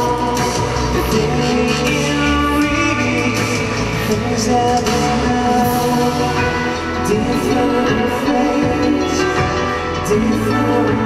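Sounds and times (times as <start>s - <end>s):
person singing: 0.0s - 11.0s
pop band music: 0.0s - 11.0s.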